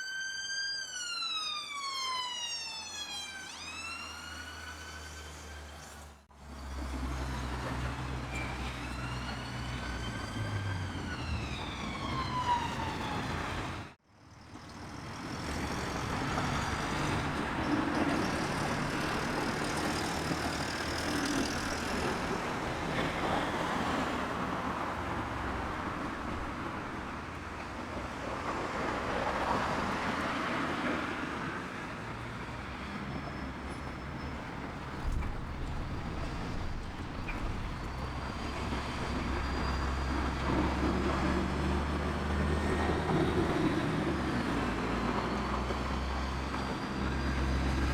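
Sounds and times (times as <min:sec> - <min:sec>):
distant siren wailing: 0:00.0 - 0:14.0, 0:15.3 - 0:27.1, 0:32.0 - 0:47.9
town traffic hum: 0:00.0 - 0:47.9.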